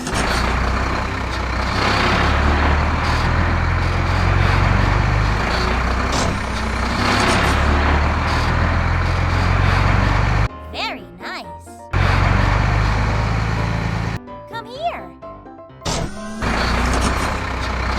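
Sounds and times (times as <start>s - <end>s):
heavy truck engine rumbling: 0.0s - 10.5s, 11.9s - 14.2s, 15.9s - 17.9s.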